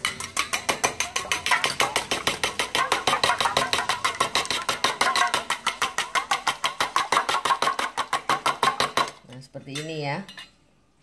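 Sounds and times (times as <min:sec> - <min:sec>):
whisk clicking against metal bowl: 0:00.0 - 0:09.2.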